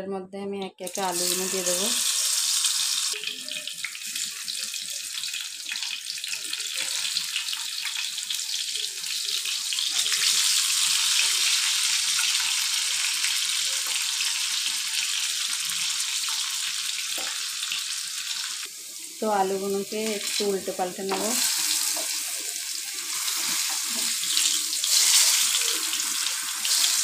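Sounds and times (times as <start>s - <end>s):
potato slices sizzling in oil: 0.9s - 27.0s.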